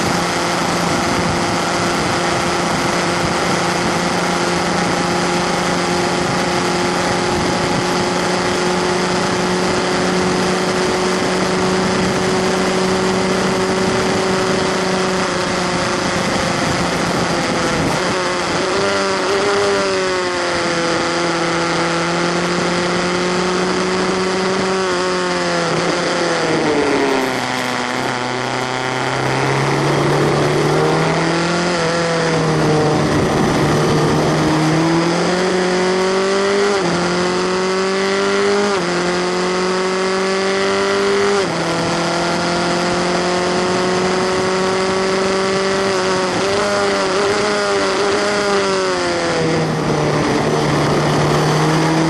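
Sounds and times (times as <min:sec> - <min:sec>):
air and tyre rush: 0:00.0 - 0:52.0
racing car engine at high revs: 0:00.0 - 0:52.0.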